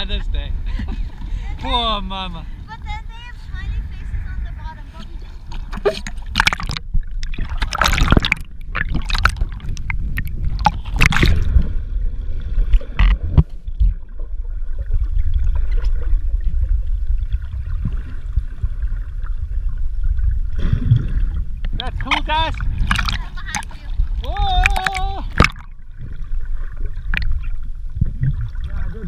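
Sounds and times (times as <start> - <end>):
muffled underwater rumble and gurgle: 2.5 - 29.0
water splashing against camera: 3.1 - 29.0.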